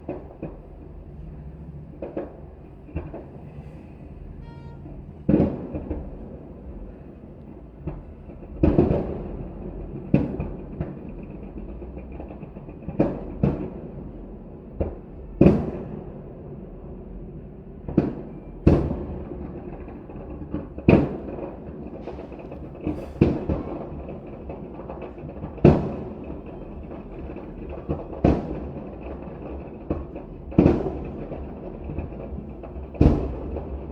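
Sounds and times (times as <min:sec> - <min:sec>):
fireworks booming with echo: 0:00.0 - 0:33.9.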